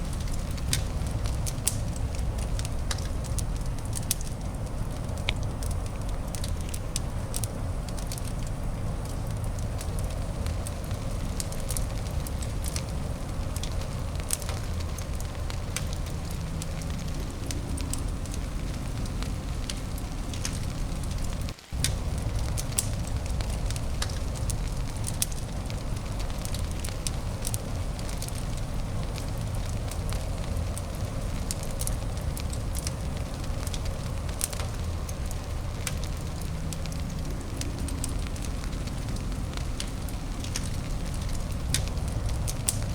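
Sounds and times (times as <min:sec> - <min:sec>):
fire crackling and popping: 0:00.0 - 0:42.9
low rushing noise: 0:04.4 - 0:42.9.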